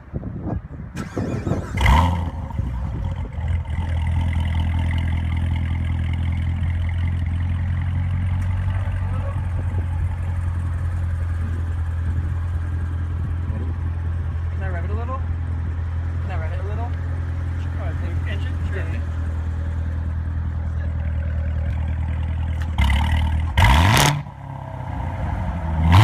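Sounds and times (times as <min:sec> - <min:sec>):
car engine starting and idling: 0:00.9 - 0:26.0.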